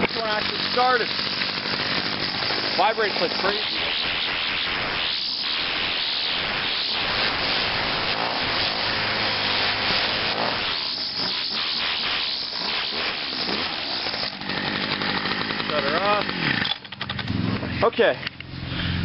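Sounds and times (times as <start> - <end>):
string trimmer engine running: 0.0 - 19.0.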